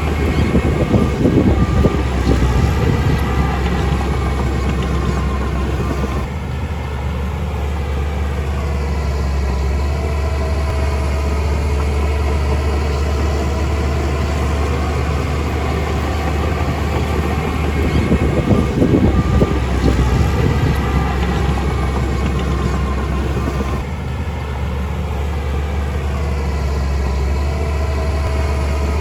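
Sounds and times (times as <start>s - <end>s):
engine knocks and clatter: 0.0s - 29.0s
heavy diesel engine droning: 0.0s - 29.0s.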